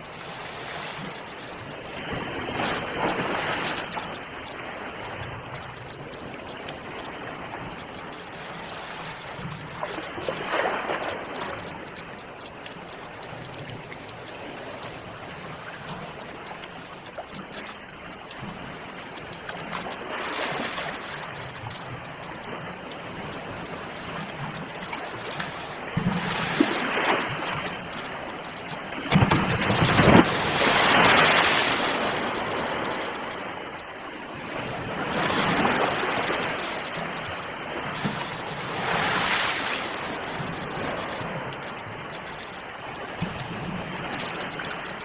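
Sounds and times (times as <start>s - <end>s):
ocean waves breaking: 0.0s - 45.0s.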